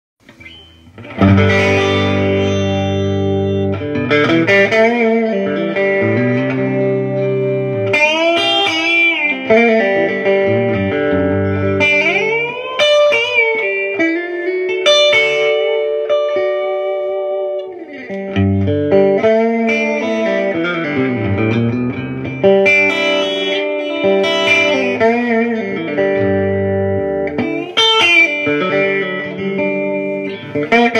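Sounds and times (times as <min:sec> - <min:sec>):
electric guitar strummed chords: 0:00.2 - 0:30.9.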